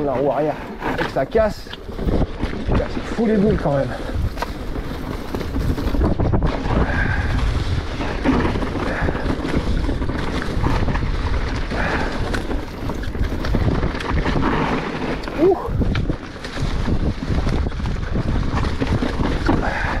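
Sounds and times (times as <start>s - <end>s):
bike knocking over rough ground: 0.0s - 20.0s
tyres rolling over leaves and stones: 0.0s - 20.0s
wind rushing on microphone: 0.0s - 20.0s.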